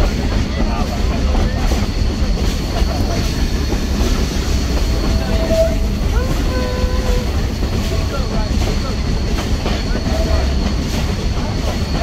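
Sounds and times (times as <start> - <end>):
train running gear rumble: 0.0 - 12.0.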